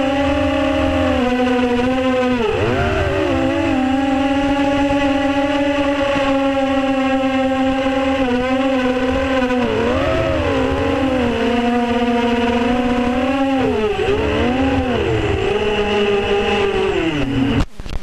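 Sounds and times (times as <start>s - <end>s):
drone motors and propellers whining: 0.0s - 18.0s.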